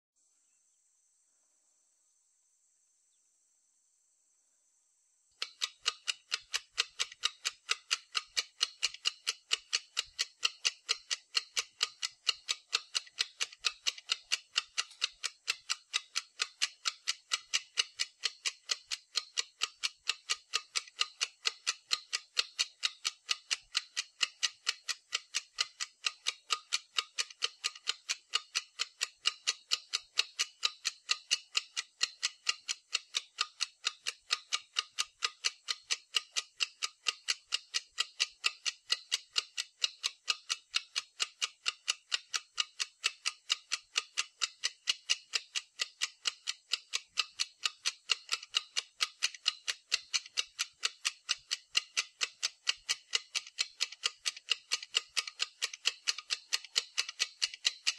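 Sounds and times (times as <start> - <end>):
steady sharp ticking: 5.3 - 57.9.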